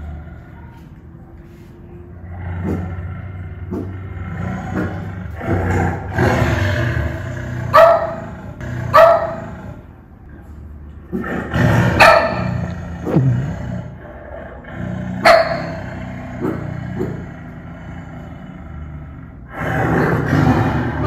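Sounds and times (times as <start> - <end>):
tiger growling and roaring: 0.0 - 0.7, 2.1 - 10.0, 11.0 - 21.0.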